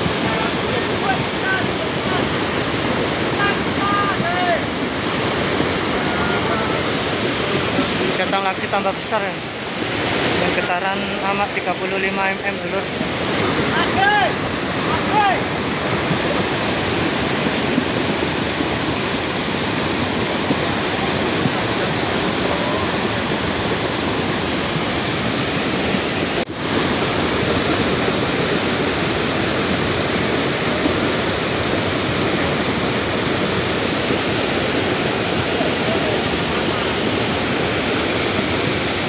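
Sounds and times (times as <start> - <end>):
muddy torrent roaring: 0.0 - 39.0.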